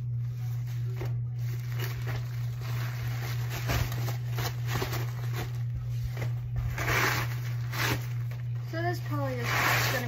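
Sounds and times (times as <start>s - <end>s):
steady low hum: 0.0s - 10.0s
pet pad rustling and crinkling: 0.2s - 10.0s.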